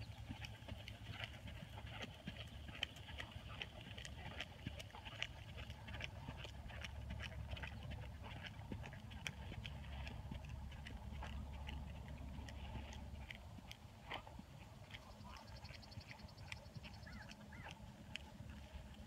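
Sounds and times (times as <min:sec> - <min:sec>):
horse hoofbeats trotting: 0:00.0 - 0:19.0.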